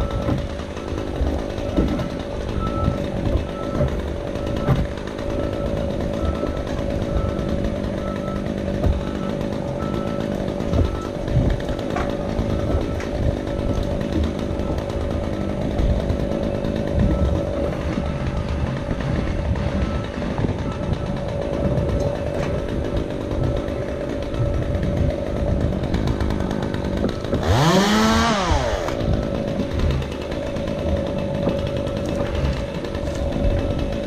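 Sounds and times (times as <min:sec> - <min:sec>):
chainsaw running: 0:00.0 - 0:34.0.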